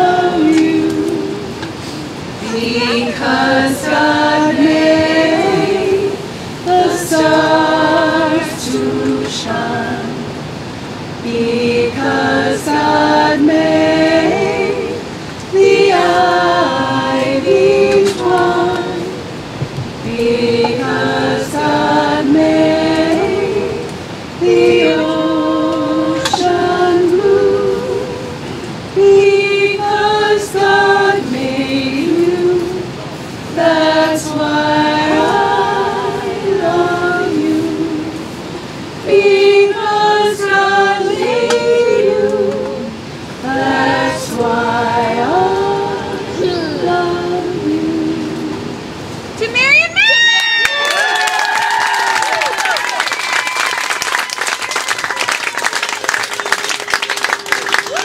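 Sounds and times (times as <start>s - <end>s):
group singing unaccompanied: 0.0s - 49.4s.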